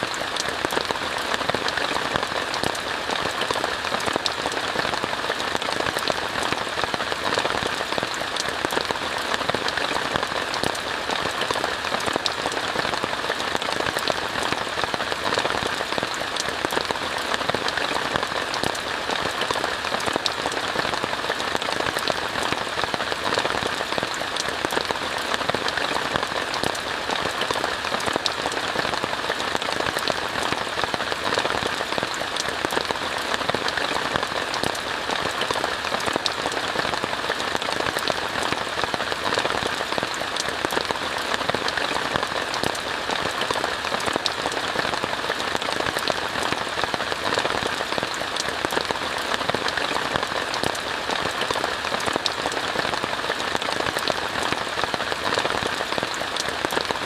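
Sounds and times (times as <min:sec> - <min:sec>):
rain on a tent: 0:00.0 - 0:57.0
raindrops striking sharply: 0:00.0 - 0:57.0.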